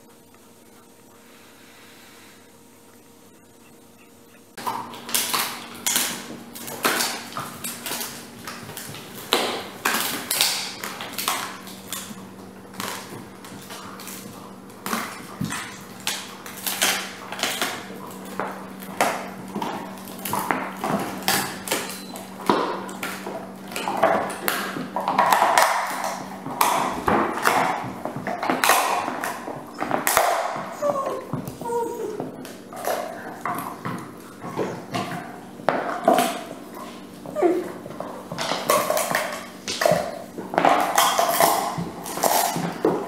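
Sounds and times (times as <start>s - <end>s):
dogs gnawing on hard chew: 4.6s - 43.0s.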